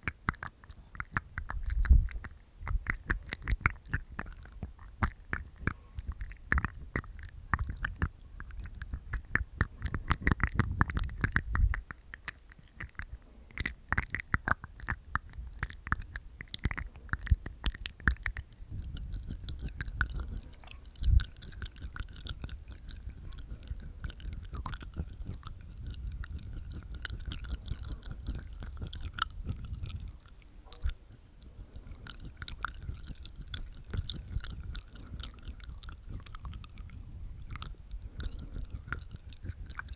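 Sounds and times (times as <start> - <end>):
wet mouth clicks: 0.0 - 39.9.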